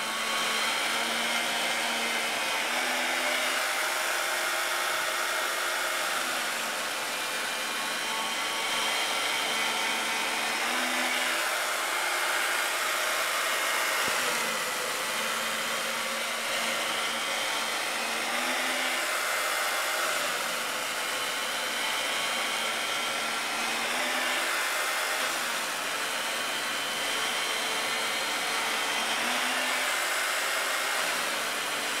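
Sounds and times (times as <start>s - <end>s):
chain mortiser motor whine: 0.0s - 32.0s.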